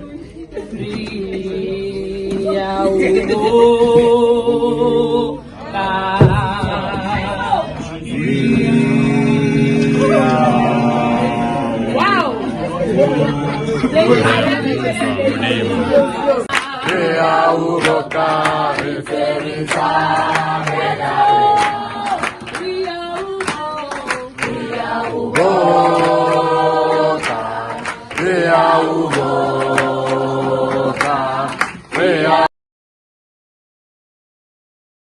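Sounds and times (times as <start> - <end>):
group of people singing: 0.0 - 32.5.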